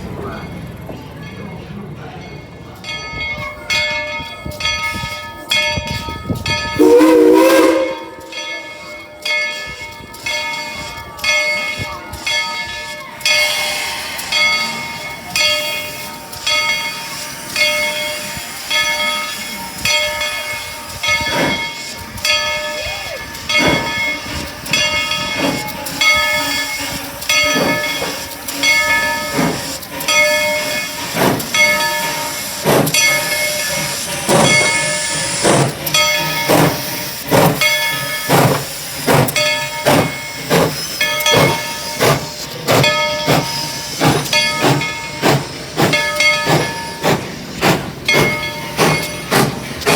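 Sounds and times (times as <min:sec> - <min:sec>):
locomotive bell ringing: 0:00.0 - 0:49.9
steam locomotive exhaust chuffs: 0:02.0 - 0:49.9.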